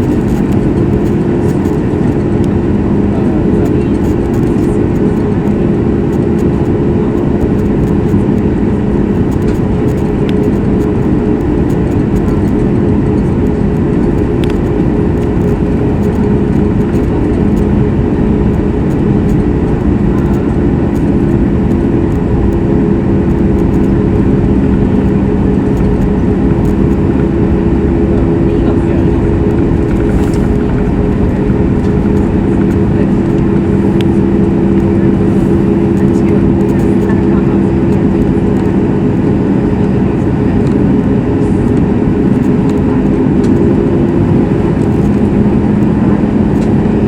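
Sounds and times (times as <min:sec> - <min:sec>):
airplane cabin engine drone: 0:00.0 - 0:47.0.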